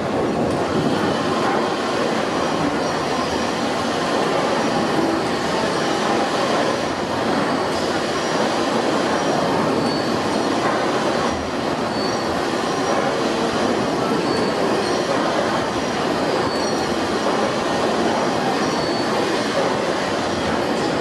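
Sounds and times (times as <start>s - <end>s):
steam engine running: 0.0s - 21.0s.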